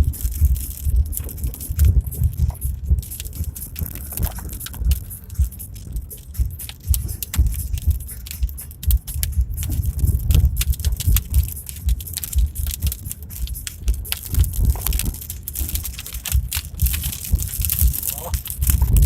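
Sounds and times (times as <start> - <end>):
suspension thumps: 0.0 - 19.0.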